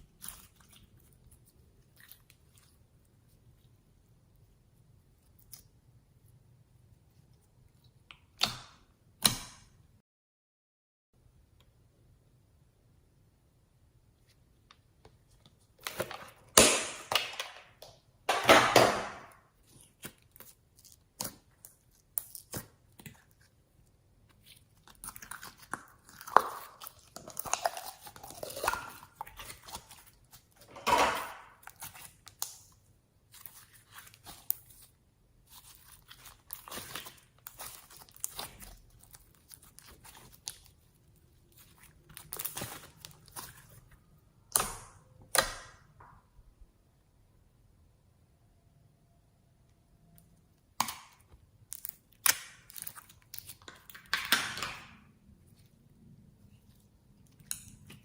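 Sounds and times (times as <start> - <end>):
slime squishing and crinkling: 0.0 - 8.9, 14.2 - 18.1, 19.0 - 46.0, 50.5 - 58.0.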